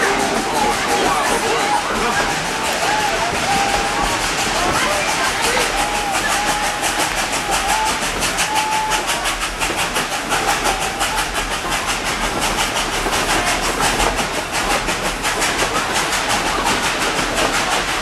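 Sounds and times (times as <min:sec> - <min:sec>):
train rolling rumble: 0:00.0 - 0:18.0
train wheels clickety-clack: 0:00.0 - 0:18.0.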